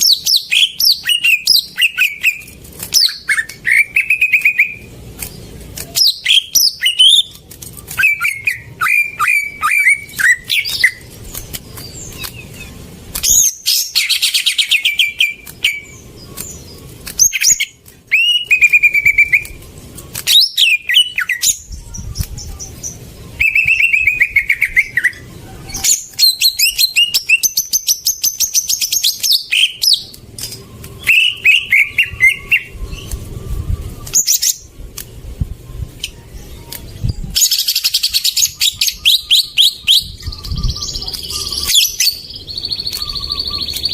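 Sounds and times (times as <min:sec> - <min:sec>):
bird singing whistles and trills: 0:00.0 - 0:04.9, 0:05.9 - 0:34.8, 0:35.4 - 0:43.9.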